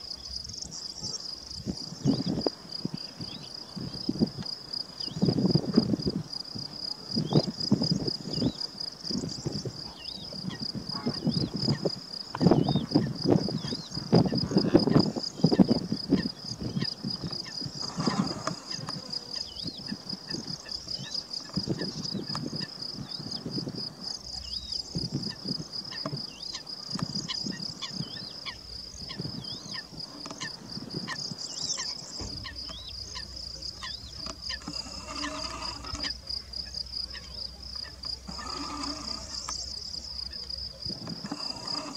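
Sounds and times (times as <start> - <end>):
insect trill: 0.0 - 41.9.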